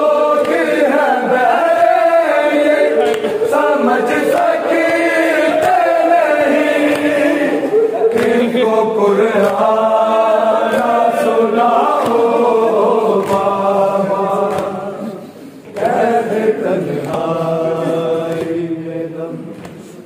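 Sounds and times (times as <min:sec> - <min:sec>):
group chanting a mourning lament: 0:00.0 - 0:20.0.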